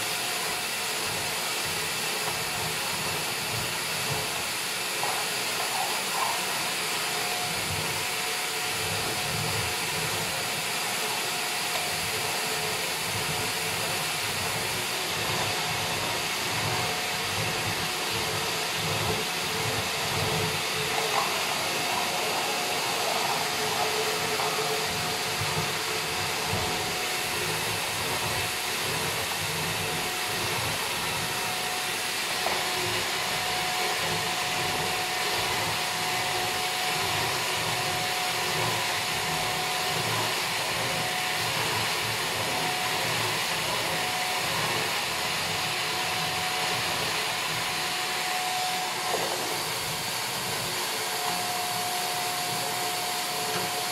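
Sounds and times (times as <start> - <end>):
vacuum cleaner on rug: 0.0 - 53.9.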